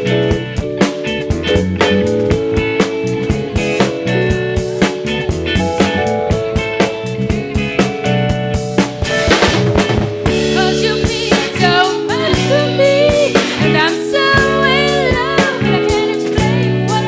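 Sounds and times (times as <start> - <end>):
bass and guitar chords: 0.0 - 17.0
drum kit beat: 0.0 - 17.0
pitch-bending melody line: 0.0 - 17.0.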